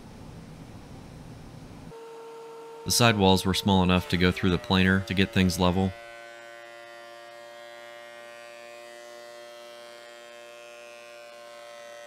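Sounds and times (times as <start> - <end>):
thickness planer motor hum: 1.9 - 12.0.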